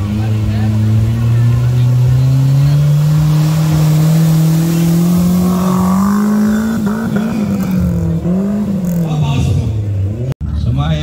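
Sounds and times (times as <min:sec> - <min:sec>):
engine revving hard: 0:00.0 - 0:09.6.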